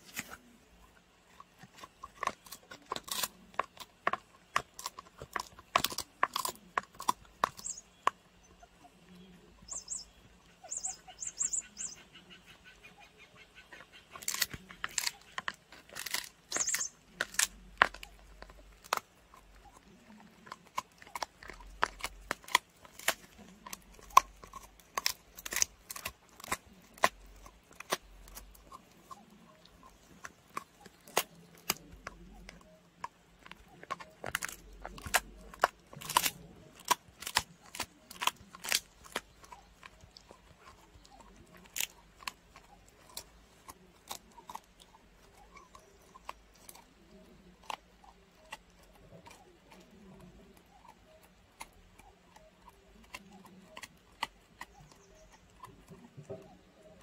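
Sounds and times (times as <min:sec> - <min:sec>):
dog crunching a chew: 0:00.0 - 0:11.9, 0:13.7 - 0:57.0.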